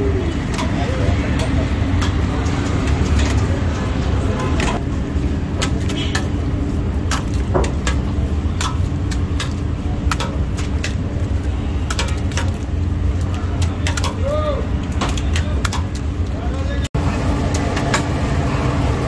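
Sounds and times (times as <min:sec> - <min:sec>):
traffic rumble: 0:00.0 - 0:19.0
sharp clicks and knocks: 0:00.4 - 0:16.4.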